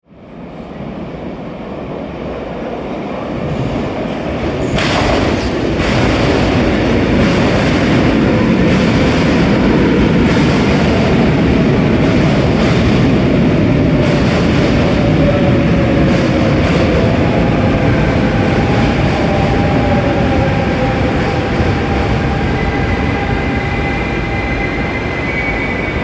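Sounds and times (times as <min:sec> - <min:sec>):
electric train rumbling: 0:00.1 - 0:26.0.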